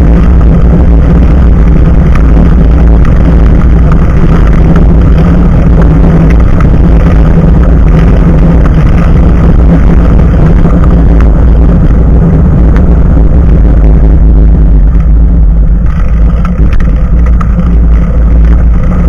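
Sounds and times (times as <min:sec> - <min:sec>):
bicycle tyre noise on road: 0:00.0 - 0:19.0
wind on microphone: 0:00.0 - 0:19.0.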